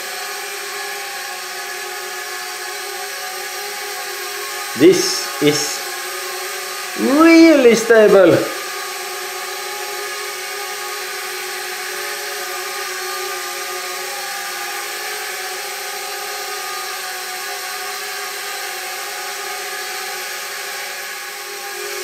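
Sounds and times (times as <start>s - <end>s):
quadcopter motors whirring: 0.0s - 22.0s.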